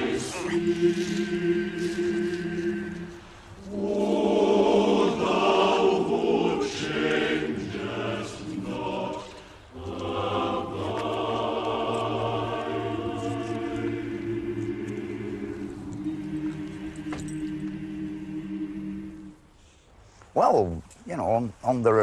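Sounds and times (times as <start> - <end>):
choir singing held chords: 0.0 - 19.7.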